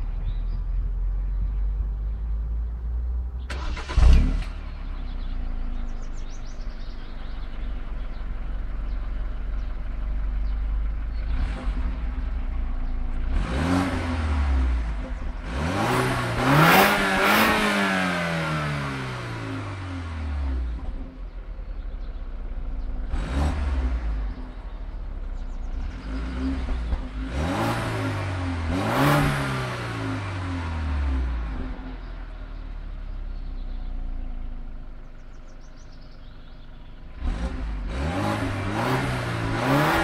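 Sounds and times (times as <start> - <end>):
car engine starting and idling: 0.0 - 40.0
car engine revving: 3.4 - 40.0.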